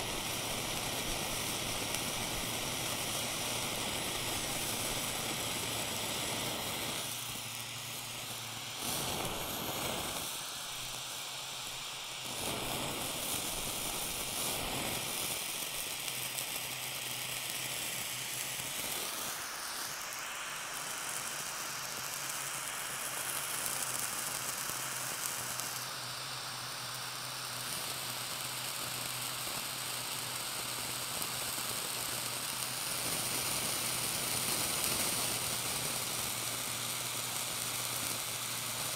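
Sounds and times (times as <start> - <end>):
blowtorch flame hissing: 0.0 - 38.9.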